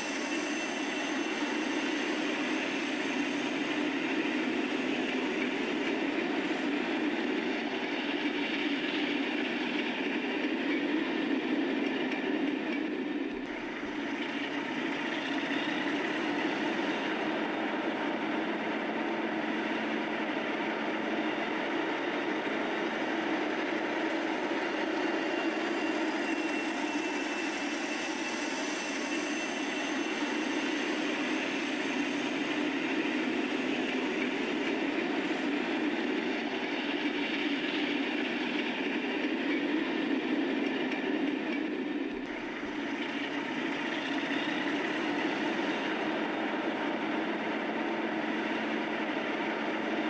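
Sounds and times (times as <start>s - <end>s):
faint high whine: 0.0s - 50.0s
train running: 0.0s - 50.0s.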